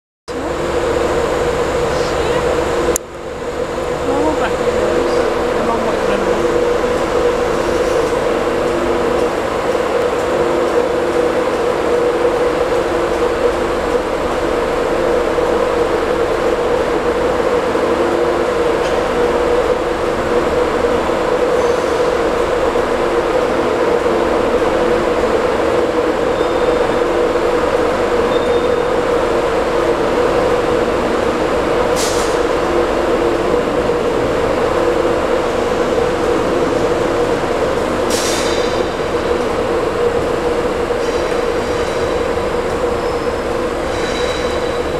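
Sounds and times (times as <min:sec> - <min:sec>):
train coaches rumbling past: 0:00.3 - 0:44.9.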